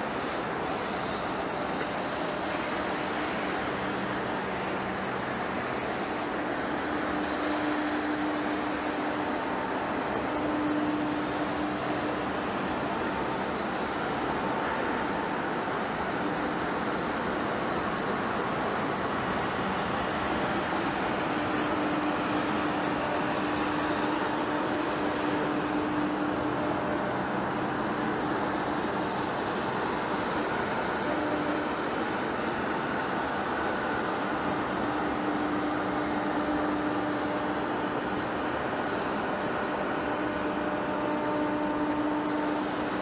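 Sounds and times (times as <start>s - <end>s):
lathe machine noise: 0.0s - 43.0s.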